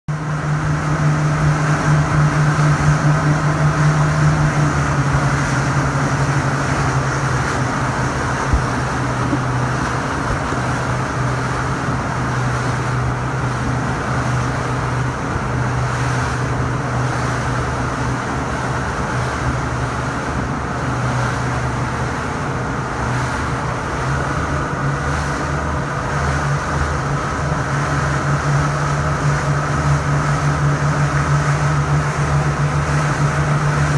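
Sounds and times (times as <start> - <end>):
engine drone: 0.1 - 33.9
low hum: 0.1 - 33.9.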